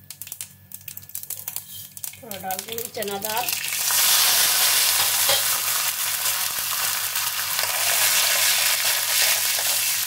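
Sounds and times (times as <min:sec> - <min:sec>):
lentils sizzling in hot oil: 0:00.2 - 0:10.0.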